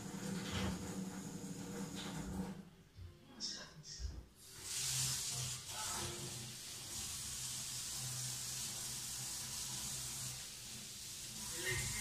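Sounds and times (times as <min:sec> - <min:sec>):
tap water running into sink: 0:00.0 - 0:02.6, 0:04.4 - 0:12.0.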